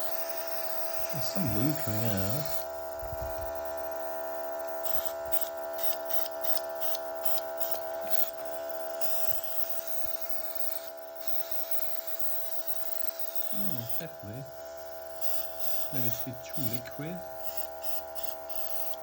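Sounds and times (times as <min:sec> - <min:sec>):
compressor electric hum: 0:00.0 - 0:19.0.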